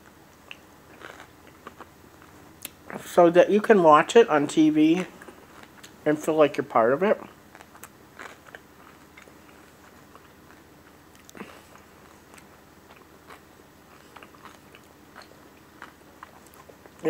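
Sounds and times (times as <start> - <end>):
person chewing food: 0.0 - 3.1, 5.0 - 6.0, 7.2 - 17.0.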